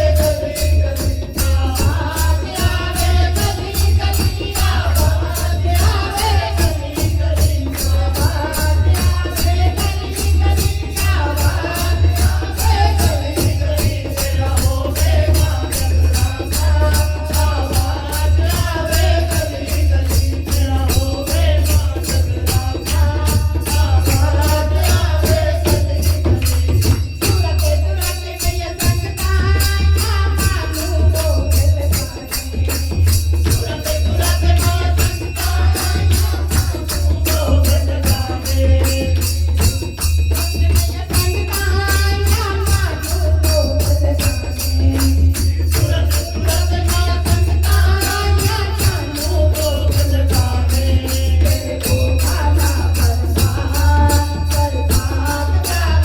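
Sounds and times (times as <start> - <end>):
jingling hand percussion: 0.0 - 56.0
person singing devotional song: 0.0 - 56.0.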